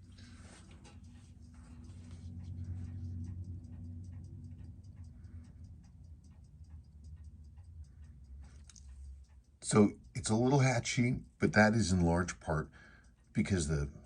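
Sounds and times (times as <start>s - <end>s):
watch ticking: 0.0s - 14.0s.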